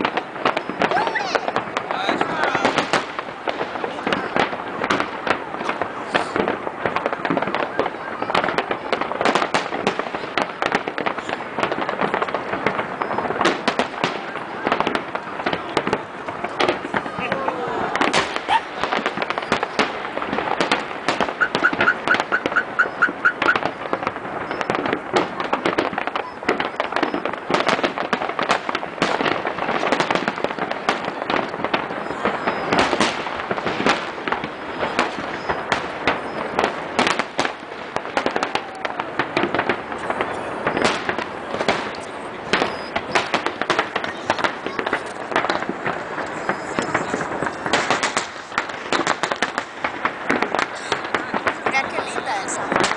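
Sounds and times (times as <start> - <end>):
fireworks bursting and crackling: 0.0 - 52.9.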